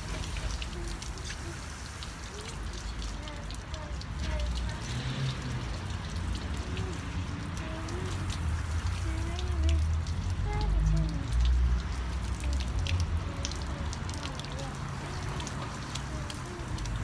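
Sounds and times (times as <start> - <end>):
water drips and splashes: 0.0 - 17.0
water spraying on car: 0.0 - 17.0.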